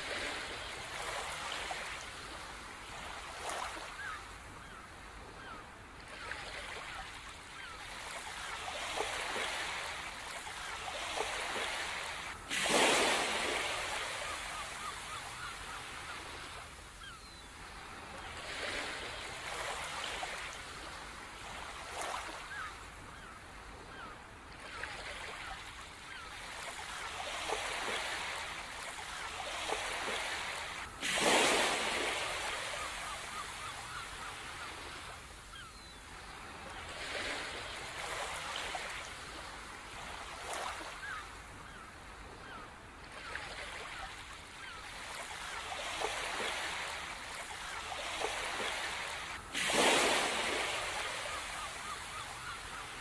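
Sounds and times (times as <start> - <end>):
sea waves breaking on shore: 0.0 - 53.0.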